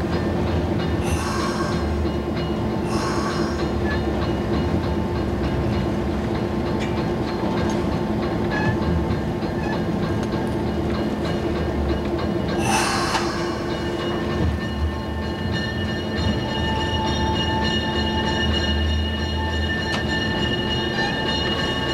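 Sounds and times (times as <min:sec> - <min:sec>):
locomotive engine hum: 0:00.0 - 0:21.9
train rolling on jointed track: 0:00.0 - 0:21.9.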